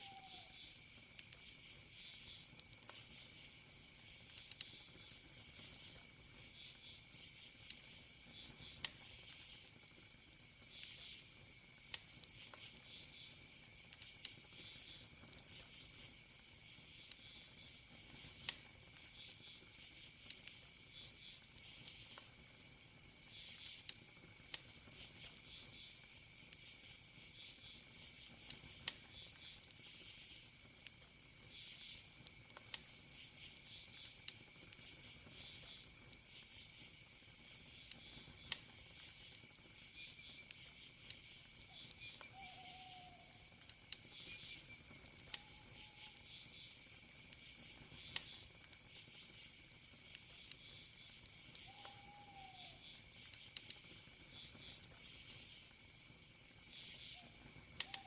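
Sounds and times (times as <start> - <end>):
crickets chirping: 0.0 - 58.0
high insect trill: 0.0 - 58.0
wood fire crackling: 0.0 - 58.0.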